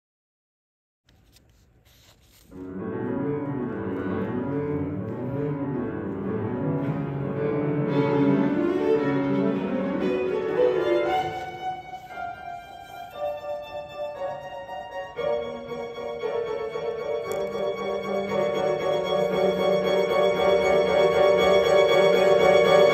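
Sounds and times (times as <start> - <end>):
piano: 1.2 - 22.9
cello: 2.5 - 22.9
violin: 2.5 - 22.9.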